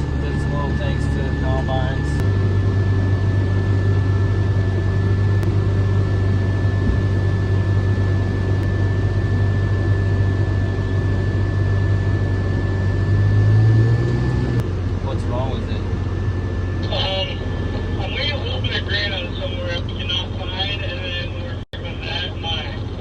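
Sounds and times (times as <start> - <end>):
machinery engine humming with whine: 0.0 - 23.0.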